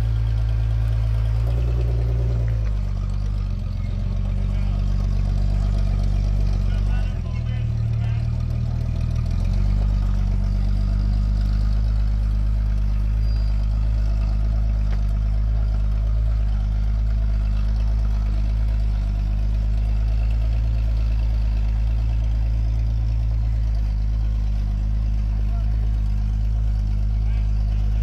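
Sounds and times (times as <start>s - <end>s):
engine droning at low revs: 0.0s - 28.0s.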